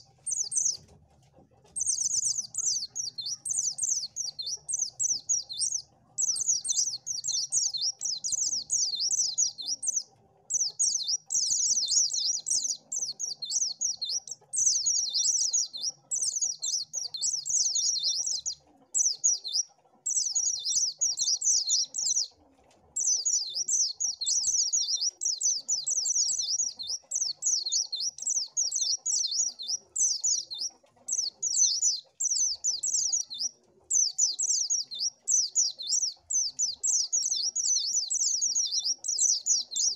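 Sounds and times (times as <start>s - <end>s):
bird twittering warble: 0.0s - 0.9s, 1.6s - 39.9s.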